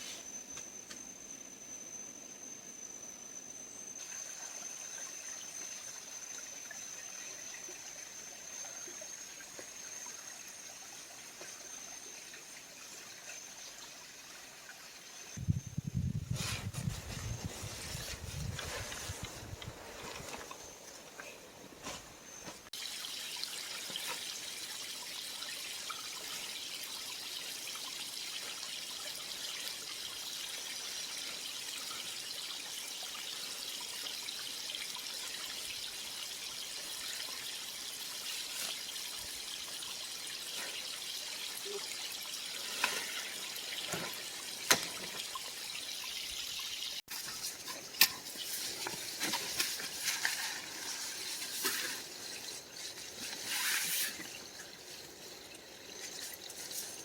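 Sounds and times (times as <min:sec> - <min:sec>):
creek water running: 0:04.0 - 0:57.0.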